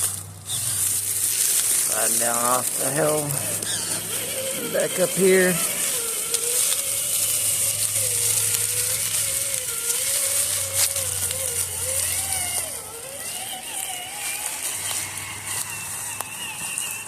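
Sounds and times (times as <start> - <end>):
toy car motor and gears whining: 0.0 - 17.0.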